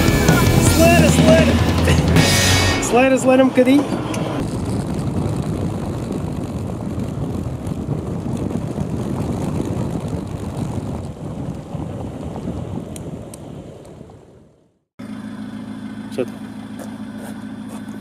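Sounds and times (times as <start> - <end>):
rushing wind: 0.0 - 14.9
road rumble: 0.0 - 18.0.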